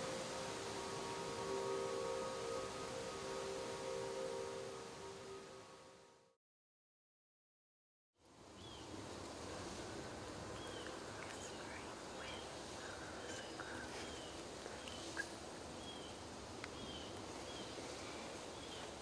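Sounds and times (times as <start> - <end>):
outdoor ambient hiss: 0.0 - 6.4, 8.2 - 19.0.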